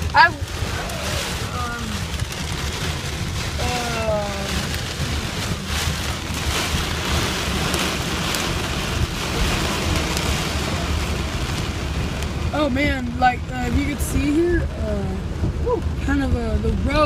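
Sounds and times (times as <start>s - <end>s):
heavy rain pelting a car: 0.0s - 17.0s.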